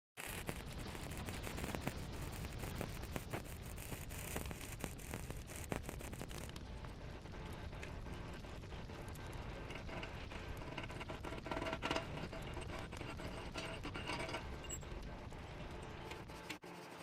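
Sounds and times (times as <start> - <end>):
welding arc crackling: 0.2 - 16.6.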